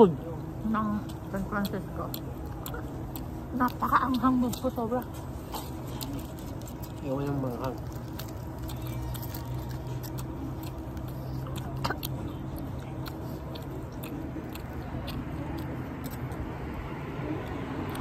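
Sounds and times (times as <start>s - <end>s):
people chewing: 0.0s - 18.0s
steady low hum: 0.0s - 18.0s.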